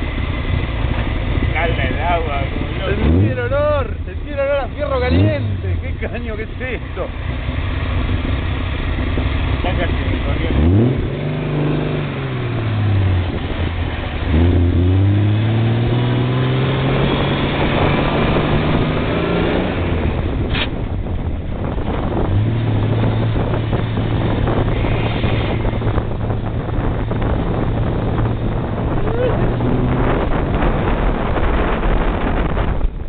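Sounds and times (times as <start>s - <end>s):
car engine revving: 0.0s - 33.0s
road and wind noise: 0.0s - 33.0s.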